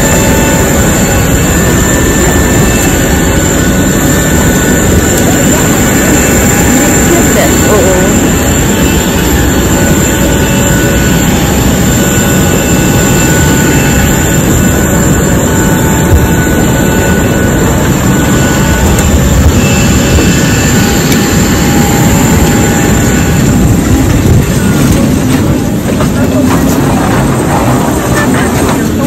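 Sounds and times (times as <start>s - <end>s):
faint whine tones: 0.0s - 29.0s
jet engine rushing: 0.0s - 29.0s.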